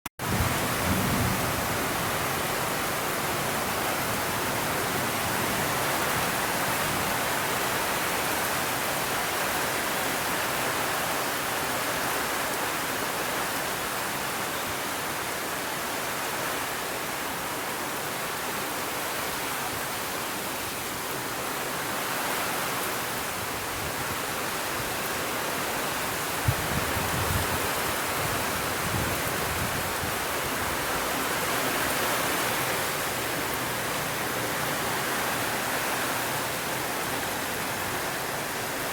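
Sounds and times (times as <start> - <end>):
steady rain: 0.2 - 38.9.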